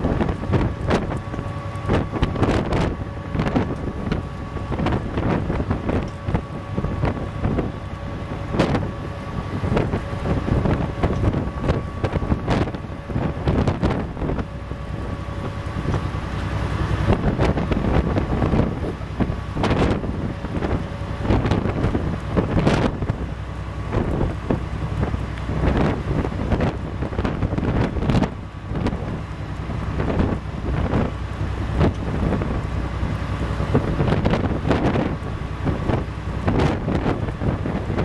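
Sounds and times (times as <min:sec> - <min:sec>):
low machinery hum: 0:00.0 - 0:38.0
wind buffeting microphone: 0:00.0 - 0:38.0.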